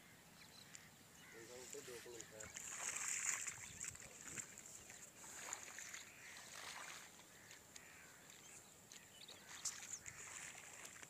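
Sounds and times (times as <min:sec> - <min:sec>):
faint water flowing in channel: 0:00.0 - 0:11.0.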